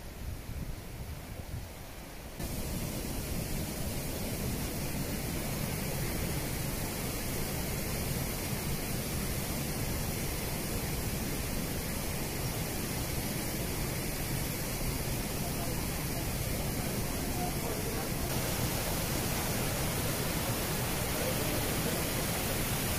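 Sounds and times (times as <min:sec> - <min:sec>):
waterfall rushing: 0:02.4 - 0:22.9.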